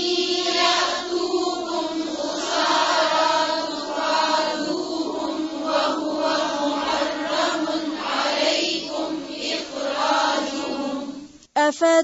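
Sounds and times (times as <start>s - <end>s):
woman chanting recitation: 0.0s - 12.0s.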